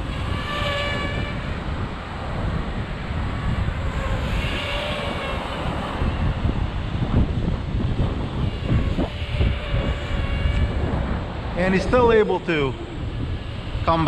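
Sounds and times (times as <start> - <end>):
quadcopter propellers whining: 0.0 - 14.0
wind buffeting microphone: 0.0 - 14.0.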